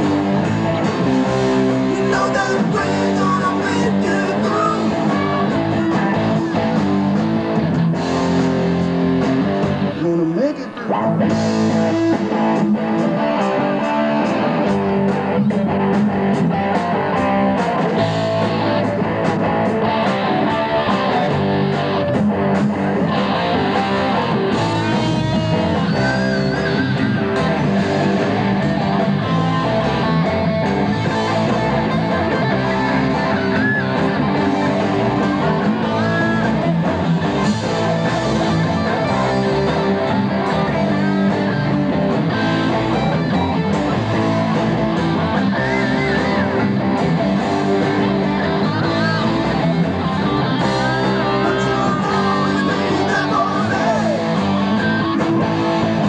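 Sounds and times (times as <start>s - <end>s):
drum kit: 0.0s - 10.4s, 11.0s - 56.0s
bass guitar: 0.0s - 56.0s
electric guitars: 0.0s - 56.0s.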